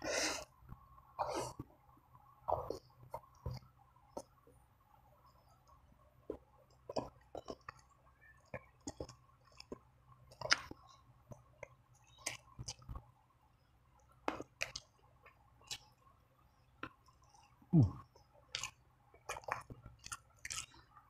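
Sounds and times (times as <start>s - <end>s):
wet chewing and smacking: 2.5s - 4.5s, 5.2s - 13.2s, 14.0s - 21.0s.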